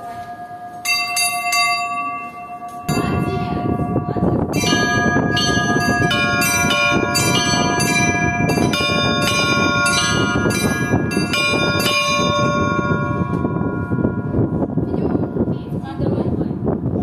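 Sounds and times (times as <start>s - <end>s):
church bells pealing: 0.0s - 15.9s.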